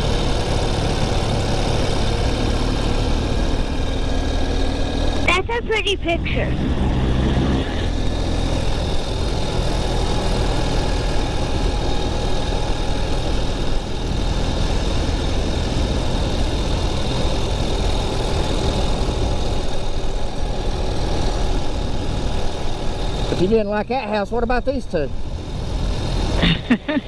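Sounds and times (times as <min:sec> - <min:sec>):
motorcycle engine rumble: 0:00.0 - 0:27.0
road and wind noise: 0:00.0 - 0:27.0.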